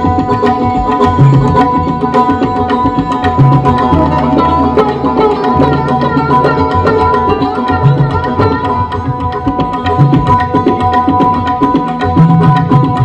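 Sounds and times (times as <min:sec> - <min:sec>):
tabla drumming: 0:00.0 - 0:13.0.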